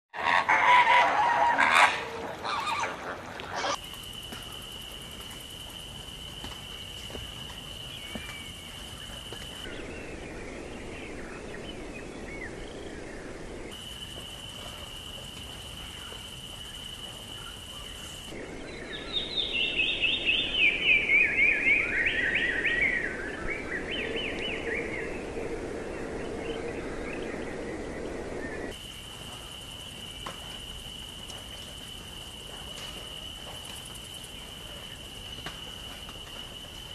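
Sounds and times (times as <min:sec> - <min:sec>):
background hiss: 0:00.6 - 0:36.9.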